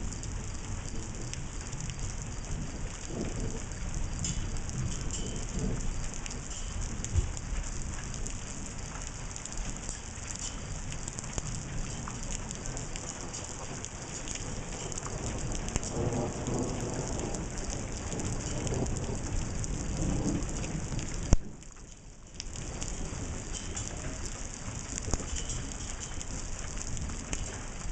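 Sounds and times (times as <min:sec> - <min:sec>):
heavy rain: 0:00.0 - 0:27.9.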